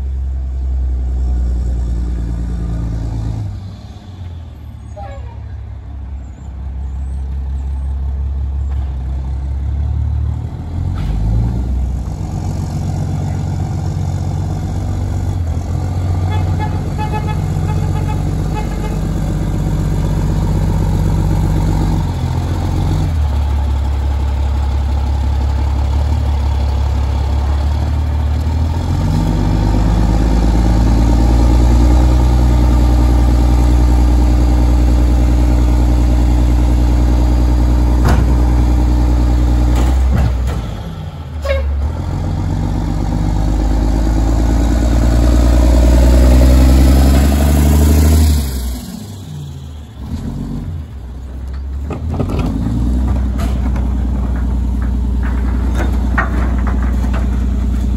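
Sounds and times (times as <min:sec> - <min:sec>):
garbage truck diesel engine growling: 0:00.0 - 0:57.9.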